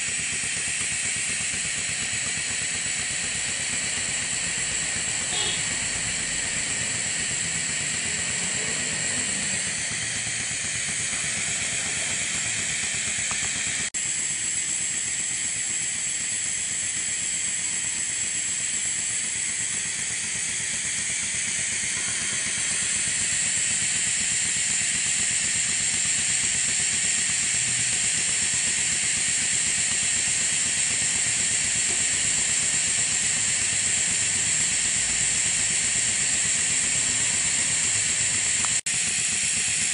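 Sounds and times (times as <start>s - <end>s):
model steam engine air hiss: 0.0s - 6.4s, 7.2s - 39.9s.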